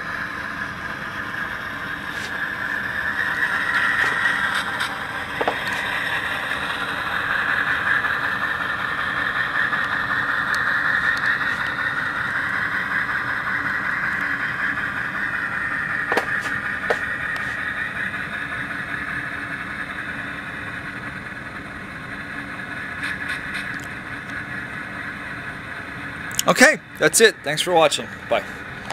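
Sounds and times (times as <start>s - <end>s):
diesel engine sound from small speaker: 0.0s - 28.9s.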